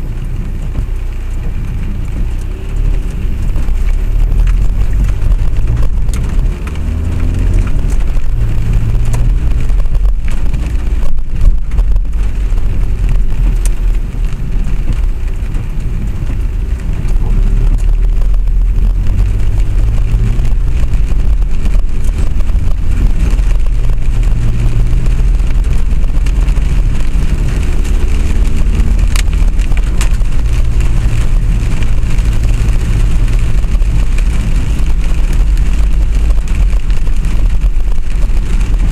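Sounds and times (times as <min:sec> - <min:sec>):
vehicle engine rumble: 0:00.0 - 0:38.9
vehicle whine: 0:00.0 - 0:38.9.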